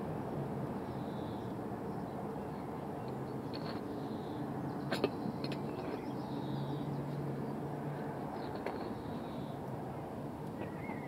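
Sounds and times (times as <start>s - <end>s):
distant engine hum: 0.0s - 11.0s.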